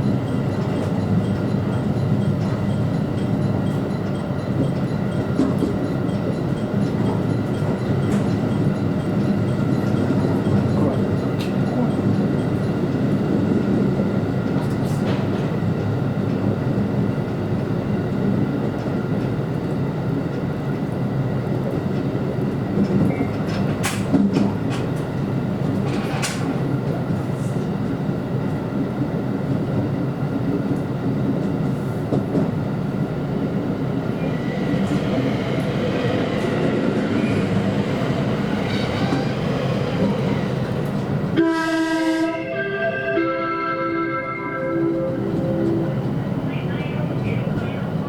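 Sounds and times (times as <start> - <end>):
train rumbling along track: 0.0 - 48.0.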